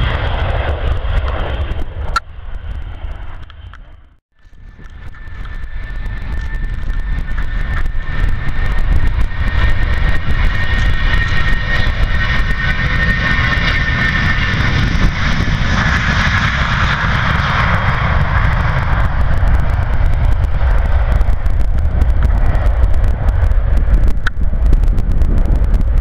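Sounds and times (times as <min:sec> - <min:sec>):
jet engines roaring: 0:00.0 - 0:26.0
wind buffeting microphone: 0:00.0 - 0:26.0.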